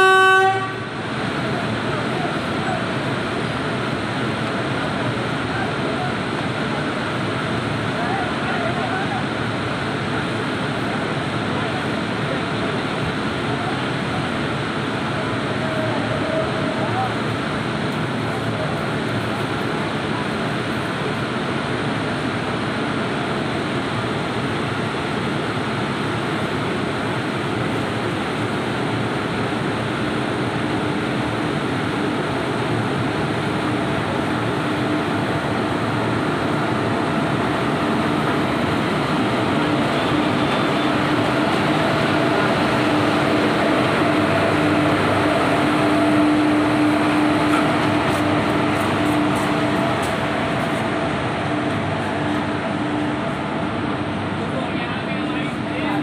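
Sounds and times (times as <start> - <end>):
locomotive humming: 0.0 - 56.0
train wheels rumbling on rails: 0.0 - 56.0.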